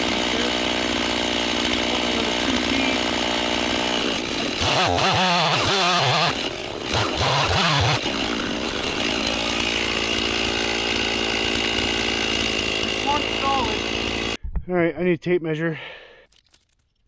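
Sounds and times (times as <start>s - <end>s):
chainsaw cutting log: 0.0s - 14.4s.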